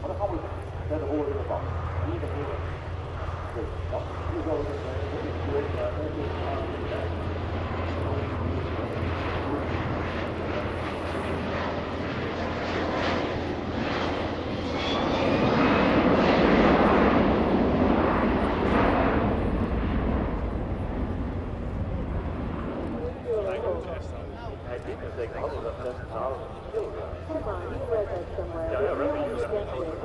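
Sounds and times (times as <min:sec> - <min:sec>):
jet engines flying past: 0:00.0 - 0:30.0.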